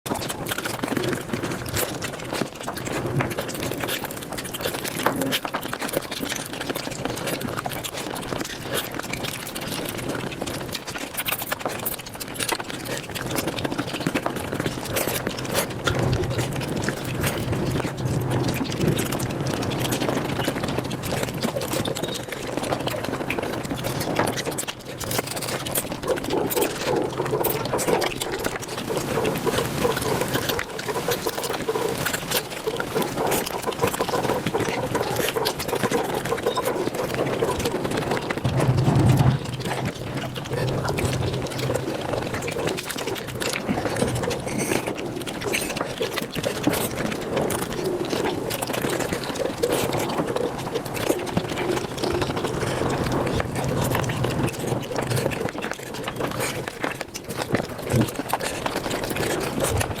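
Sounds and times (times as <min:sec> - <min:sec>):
quick chewing crunches: 0:00.1 - 1:00.0
mouth clicks: 0:00.2 - 0:59.9.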